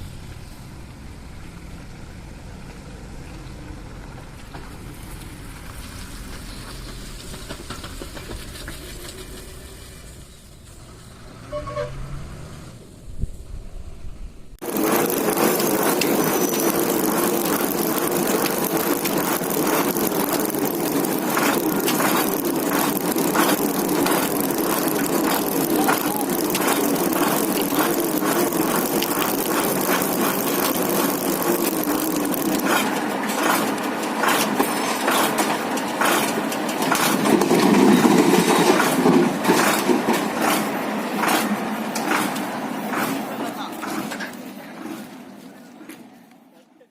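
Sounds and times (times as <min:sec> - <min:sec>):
heavy lorry running: 0:00.0 - 0:46.3.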